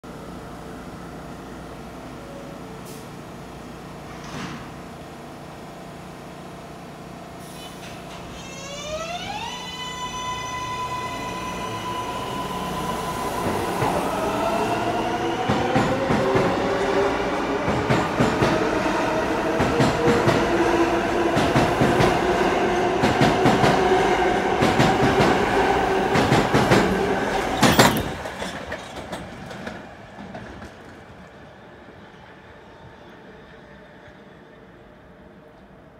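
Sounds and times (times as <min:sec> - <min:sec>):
subway train motors whining: 0:00.0 - 0:35.9.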